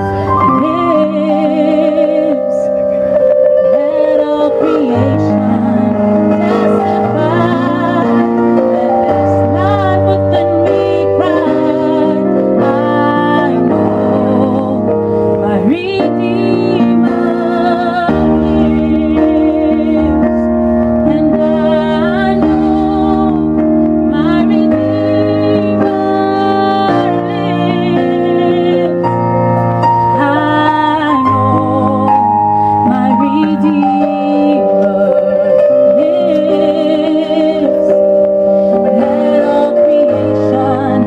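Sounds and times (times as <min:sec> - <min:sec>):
keyboard accompaniment: 0:00.0 - 0:41.0
woman singing into a microphone: 0:00.0 - 0:41.0.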